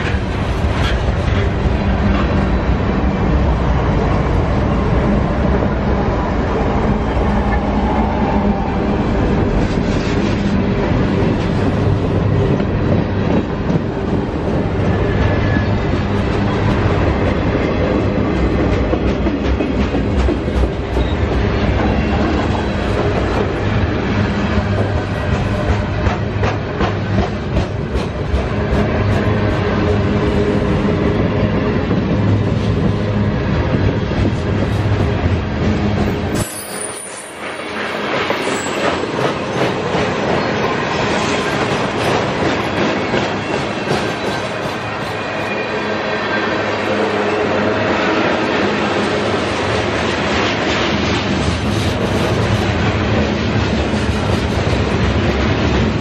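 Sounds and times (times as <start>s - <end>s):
freight train rumbling past: 0.0s - 56.0s
train cars rattling: 0.0s - 56.0s.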